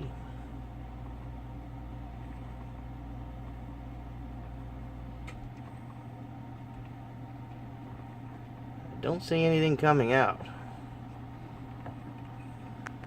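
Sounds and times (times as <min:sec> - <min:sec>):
coffee maker electrical hum: 0:00.0 - 0:13.0.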